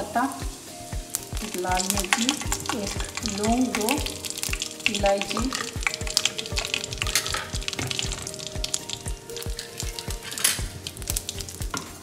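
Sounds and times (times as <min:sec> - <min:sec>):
leaves hissing in oil: 0:00.0 - 0:12.0
spices crackling in hot oil: 0:00.0 - 0:12.0.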